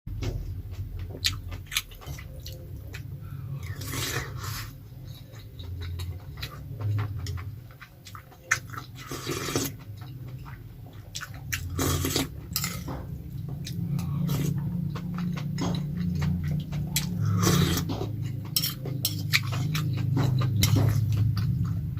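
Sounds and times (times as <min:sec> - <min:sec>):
steady low hum: 0:00.1 - 0:21.9
close-up chewing: 0:00.2 - 0:21.9.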